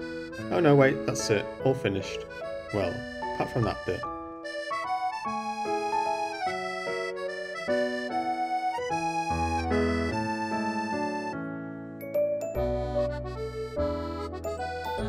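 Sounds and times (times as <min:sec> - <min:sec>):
light instrumental music: 0:00.0 - 0:15.0.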